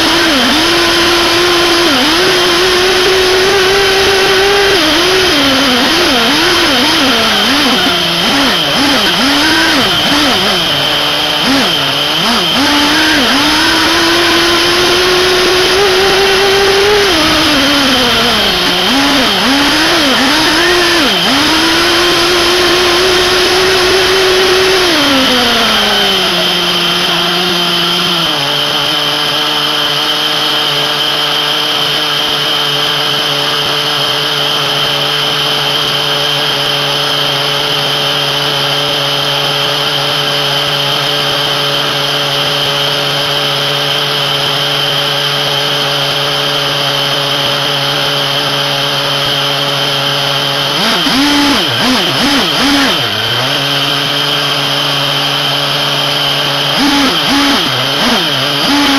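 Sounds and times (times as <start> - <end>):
steady high whine: 0.0 - 33.8, 40.5 - 58.9
model car engine revving: 0.0 - 58.9.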